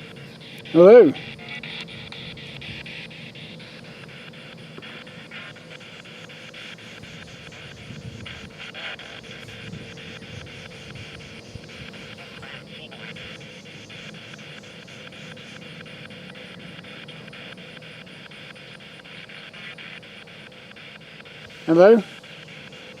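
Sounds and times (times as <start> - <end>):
radio static with rapid clicks: 0.0 - 23.0.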